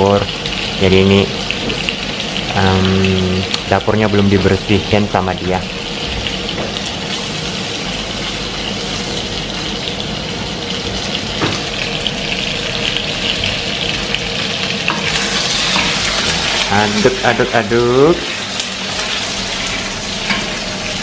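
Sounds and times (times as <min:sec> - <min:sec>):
food frying in hot oil: 0:00.0 - 0:21.0.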